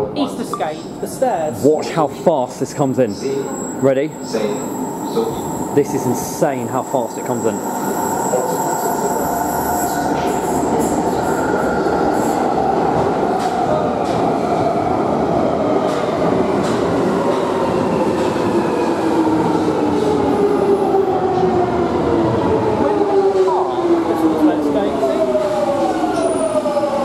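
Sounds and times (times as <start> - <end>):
train wheels rushing on rail: 0.8 - 27.0.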